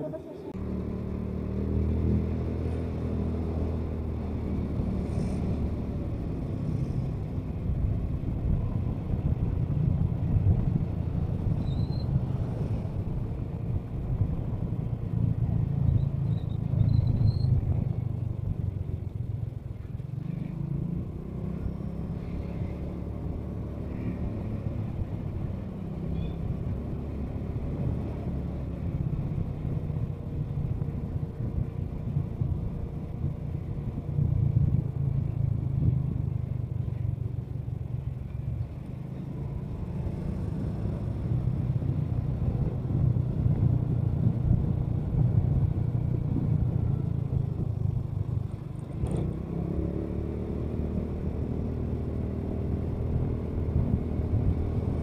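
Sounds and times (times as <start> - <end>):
road and wind rumble: 0.0 - 55.0.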